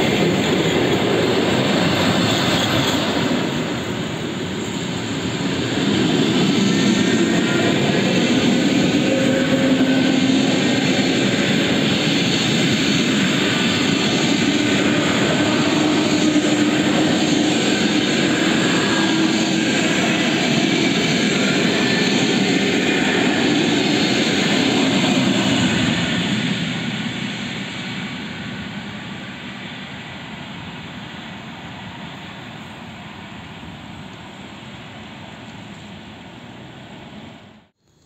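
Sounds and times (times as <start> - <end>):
electric train wheels rumbling on rails: 0.0 - 37.8.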